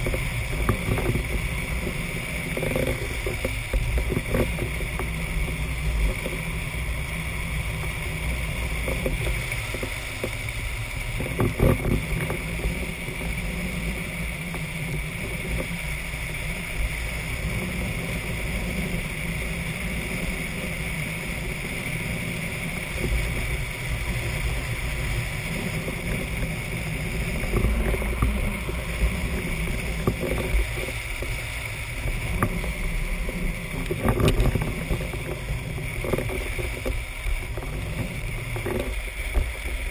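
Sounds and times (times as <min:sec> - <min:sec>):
wheels rumbling on asphalt: 0:00.0 - 0:39.9
wind buffeting microphone: 0:00.0 - 0:39.9.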